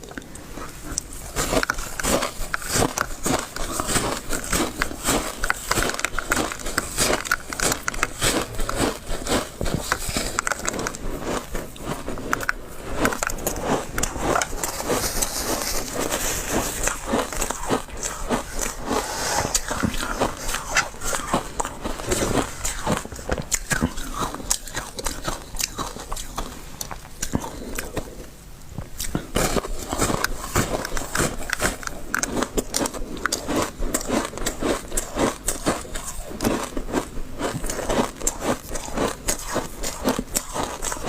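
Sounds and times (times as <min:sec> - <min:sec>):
teeth crunching ice: 0:00.0 - 0:41.0.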